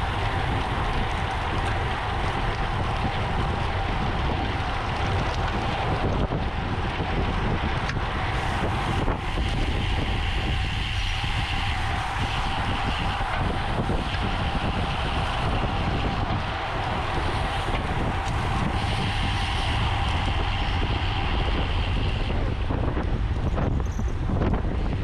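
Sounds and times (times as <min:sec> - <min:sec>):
high whir: 0:00.0 - 0:25.0
tyres rumbling on road: 0:00.0 - 0:25.0
wind rushing over microphone: 0:00.0 - 0:25.0.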